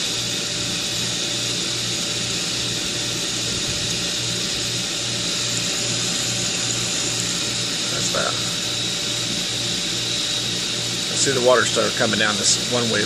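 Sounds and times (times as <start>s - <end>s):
pool pump motor humming: 0.0s - 13.0s.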